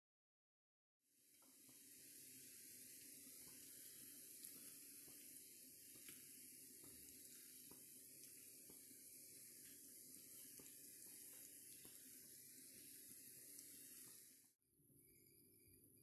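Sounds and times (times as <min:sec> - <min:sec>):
tap water running into sink: 0:01.2 - 0:14.6.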